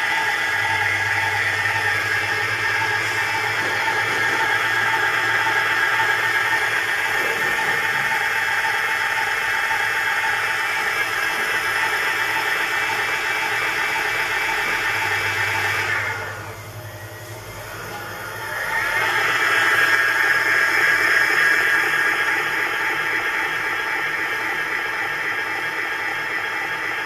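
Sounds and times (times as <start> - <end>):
hub motor whirring with gear whine: 0.0 - 27.0.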